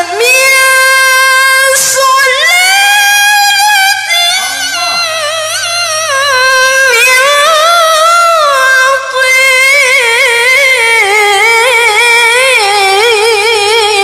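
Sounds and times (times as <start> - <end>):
woman reciting melodically: 0.0 - 14.0.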